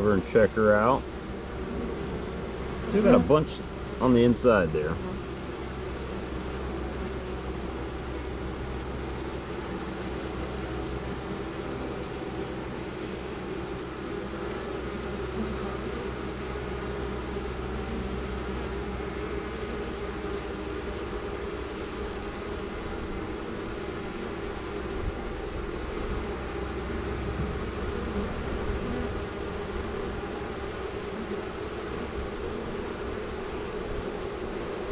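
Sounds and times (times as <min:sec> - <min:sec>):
honey bees buzzing: 0:00.0 - 0:34.9.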